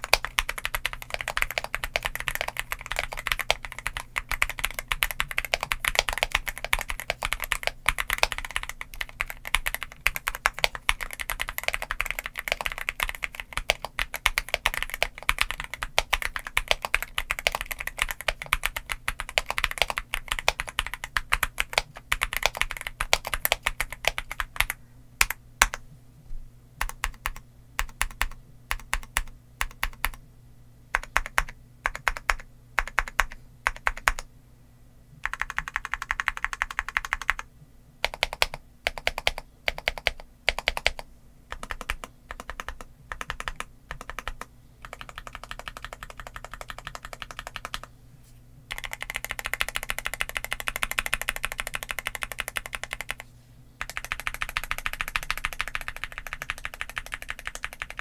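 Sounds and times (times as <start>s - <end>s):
typing on mechanical keyboard: 0.0s - 25.8s, 26.8s - 30.2s, 31.0s - 34.3s, 35.2s - 47.9s, 48.7s - 53.2s, 53.8s - 58.0s.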